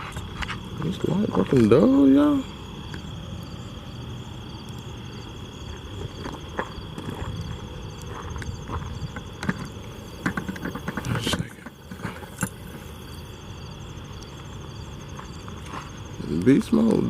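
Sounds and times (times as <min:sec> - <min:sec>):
crackles and rustles: 0:00.0 - 0:03.2, 0:04.6 - 0:13.3, 0:14.1 - 0:17.0
high insect trill: 0:00.0 - 0:17.0
night insects chirping: 0:00.0 - 0:17.0.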